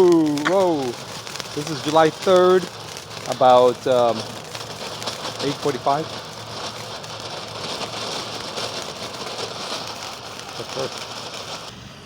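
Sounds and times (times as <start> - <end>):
firework fountain crackling hiss: 0.0 - 12.0.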